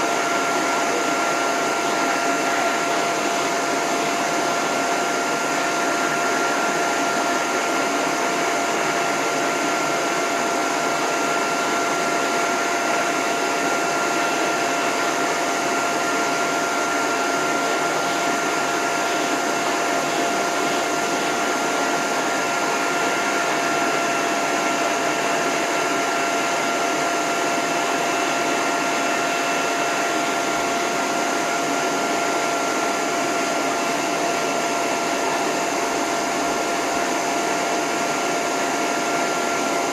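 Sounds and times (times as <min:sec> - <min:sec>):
high-velocity blower running: 0:00.0 - 0:39.9.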